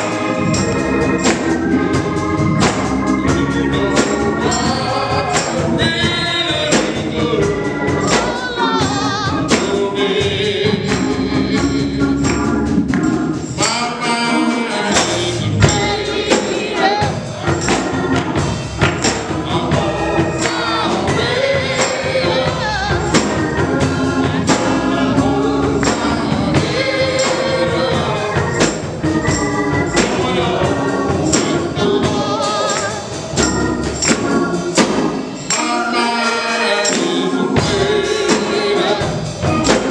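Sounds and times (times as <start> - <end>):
gospel choir singing: 0.0 - 39.9
tambourine beat: 0.0 - 39.9.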